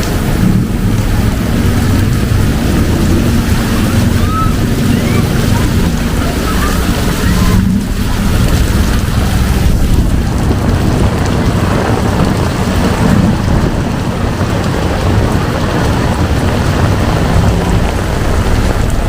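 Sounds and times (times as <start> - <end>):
heavy rain pouring: 0.0 - 19.0
vehicle engines humming: 0.0 - 19.0
wind on microphone: 0.0 - 19.0.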